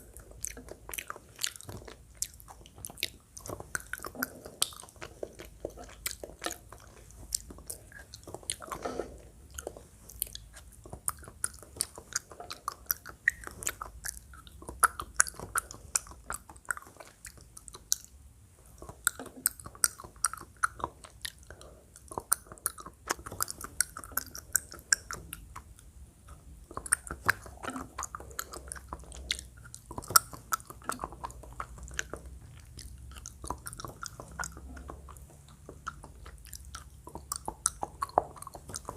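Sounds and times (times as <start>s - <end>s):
chewing with mouth clicks: 0.0s - 38.9s.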